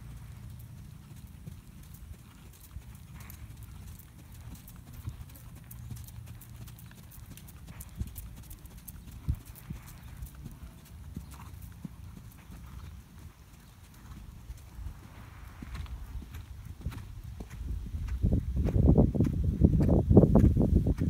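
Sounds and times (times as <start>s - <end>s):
horse hoofbeats on sand: 0.0s - 21.0s.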